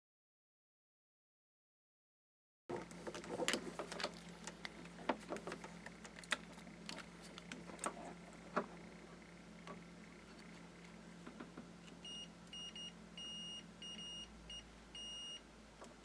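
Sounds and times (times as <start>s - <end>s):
steady low hum: 2.7s - 16.0s.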